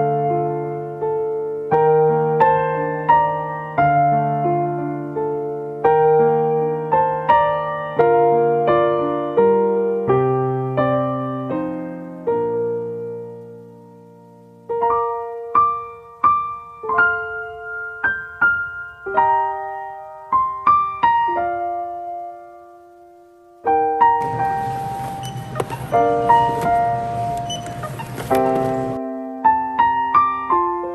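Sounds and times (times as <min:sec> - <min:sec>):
soft piano music: 0:00.0 - 0:30.9.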